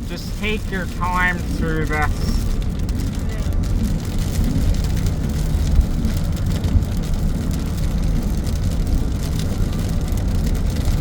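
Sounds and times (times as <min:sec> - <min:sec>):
hailstones hitting windshield: 0:00.0 - 0:11.0
heavy rain on car: 0:00.0 - 0:11.0
road rumble: 0:00.0 - 0:11.0.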